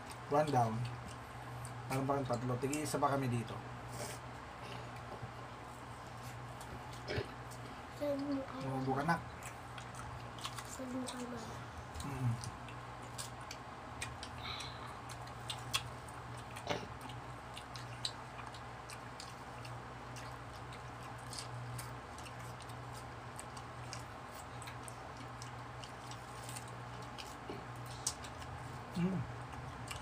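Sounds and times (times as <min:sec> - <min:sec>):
people chewing wet smacks: 0:00.0 - 0:03.1, 0:06.2 - 0:11.2, 0:11.9 - 0:30.0
steady low hum: 0:00.0 - 0:30.0.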